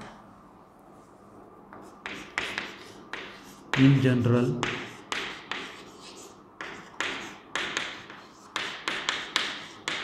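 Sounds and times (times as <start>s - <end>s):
chalk tapping and scraping on board: 1.7s - 10.0s.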